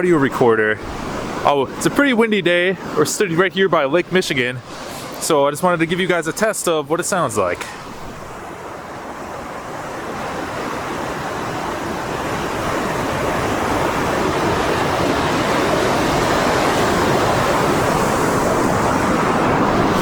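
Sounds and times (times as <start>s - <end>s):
waves washing on shore: 0.0s - 20.0s
wind: 0.0s - 20.0s.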